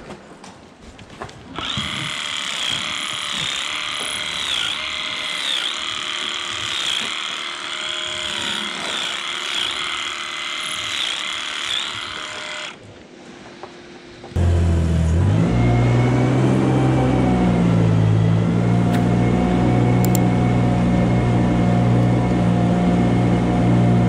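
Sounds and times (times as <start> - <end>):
electric clippers motor whine: 1.5 - 12.8, 14.3 - 24.0.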